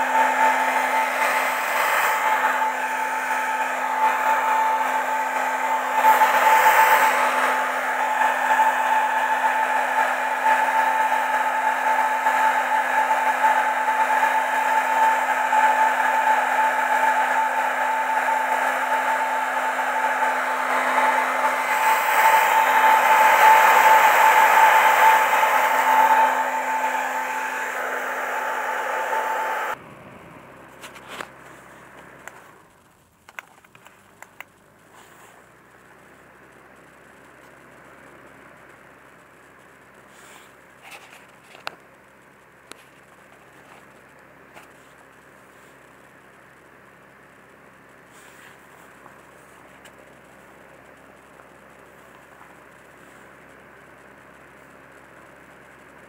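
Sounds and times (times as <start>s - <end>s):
fan-blower motor running: 0.0s - 56.0s.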